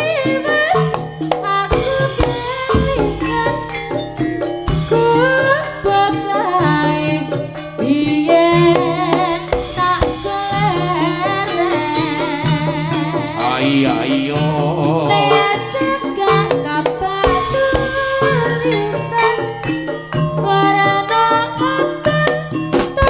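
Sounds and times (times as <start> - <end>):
drums beating: 0.0 - 23.0
wavering melodic lead line: 0.0 - 23.0.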